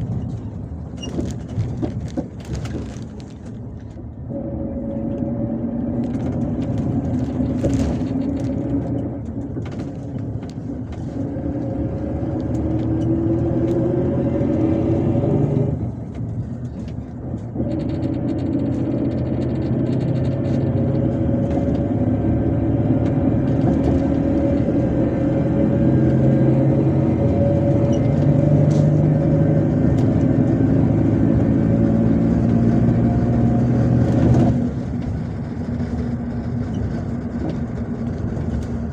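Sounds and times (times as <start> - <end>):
bus engine under load: 0.0 - 38.9.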